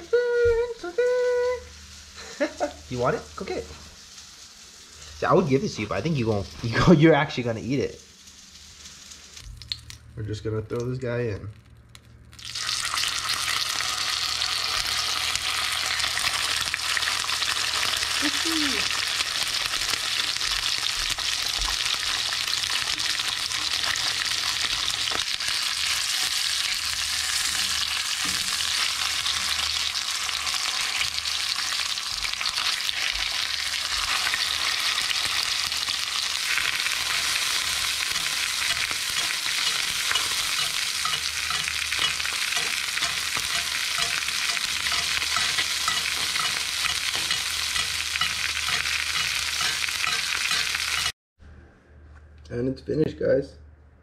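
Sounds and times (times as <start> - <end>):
fish sizzling in hot oil: 1.2 - 10.0, 11.9 - 51.2.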